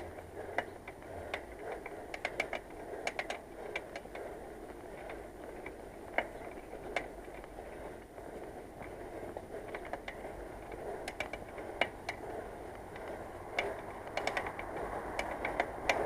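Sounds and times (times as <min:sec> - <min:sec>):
bicycle hub clicking: 0:00.0 - 0:16.0
road noise: 0:00.0 - 0:16.0.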